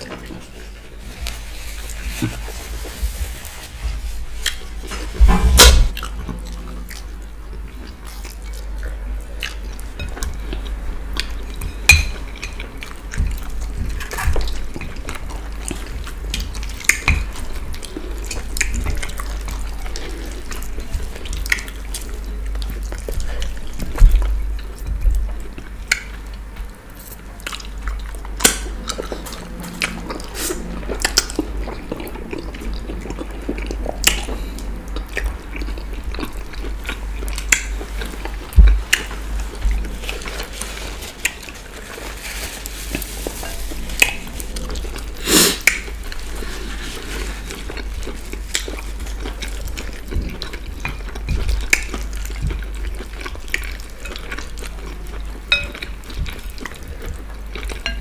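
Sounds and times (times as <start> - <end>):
chewing: 6.0 - 58.0.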